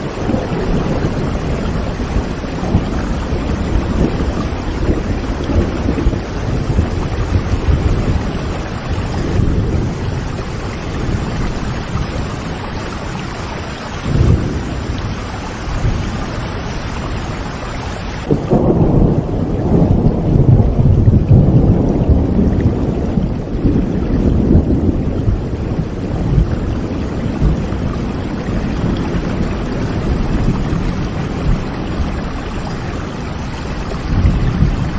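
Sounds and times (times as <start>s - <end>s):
low rolling thunder: 0.0s - 34.9s
steady rain: 0.0s - 34.9s.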